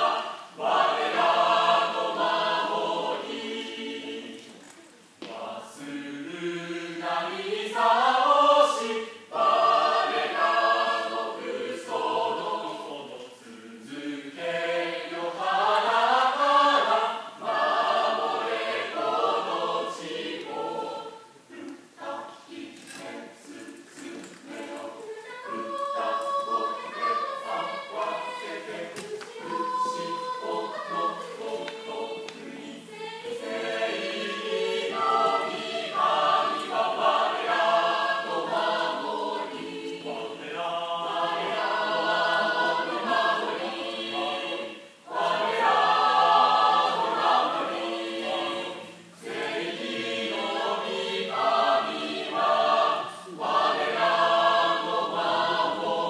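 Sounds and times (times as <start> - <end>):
mixed choir singing a hymn: 0.0 - 56.0.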